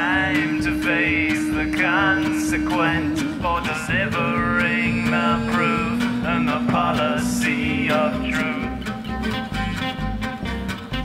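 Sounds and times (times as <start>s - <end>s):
acoustic guitars strumming: 0.0s - 11.0s
plucked upright bass: 0.0s - 11.0s
violin melody with vibrato: 0.0s - 11.0s.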